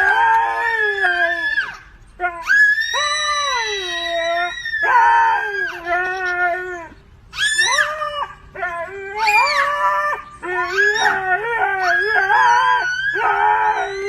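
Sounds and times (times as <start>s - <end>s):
dog howling: 0.0s - 14.0s.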